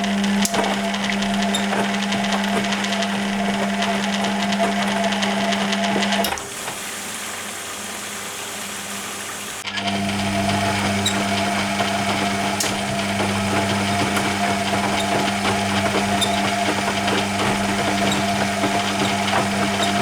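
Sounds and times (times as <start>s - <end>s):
washing machine hum: 0.0s - 20.0s.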